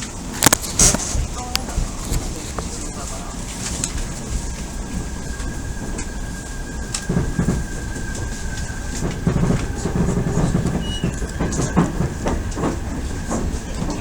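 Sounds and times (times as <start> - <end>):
train interior rumble: 0.0 - 14.0
wheels knocking over rail joints: 0.0 - 14.0.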